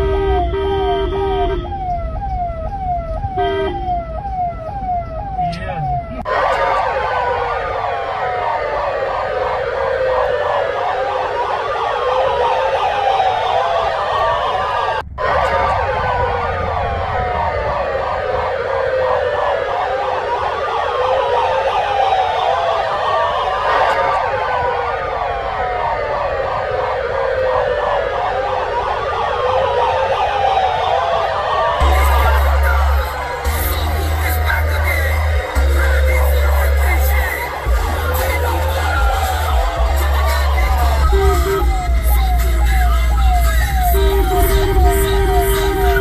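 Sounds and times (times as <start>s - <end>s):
sirens wailing: 0.0s - 46.0s.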